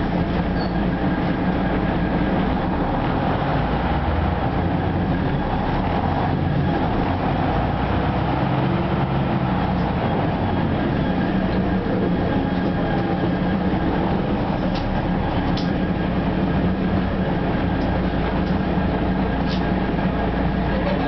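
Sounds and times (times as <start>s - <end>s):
bus diesel engine running: 0.0s - 21.0s
road and tyre rumble: 0.0s - 21.0s.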